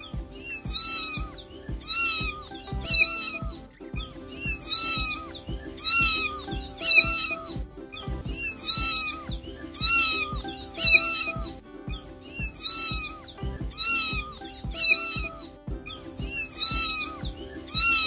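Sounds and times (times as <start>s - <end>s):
kitten meowing: 0.0s - 11.5s, 12.3s - 18.0s
background music: 0.0s - 18.0s.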